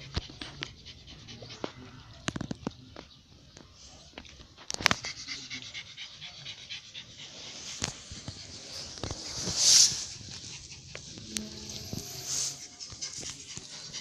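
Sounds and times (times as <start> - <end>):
dog panting: 0.0 - 2.3, 4.7 - 14.0.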